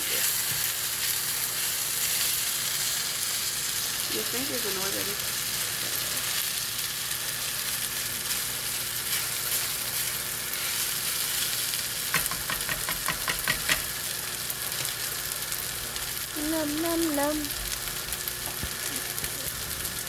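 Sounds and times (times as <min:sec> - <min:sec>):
fried rice sizzling in a pan: 0:00.0 - 0:20.0.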